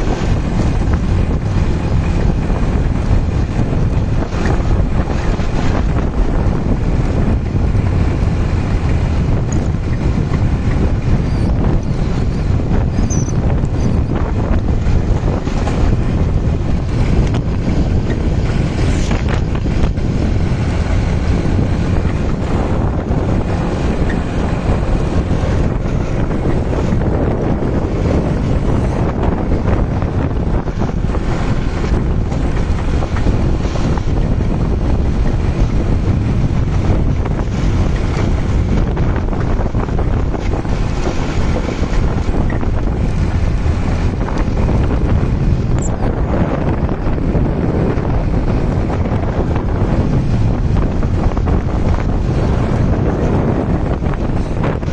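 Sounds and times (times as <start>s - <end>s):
motorbike engine rumble: 0.0s - 54.9s
wind buffeting the microphone: 0.0s - 54.9s.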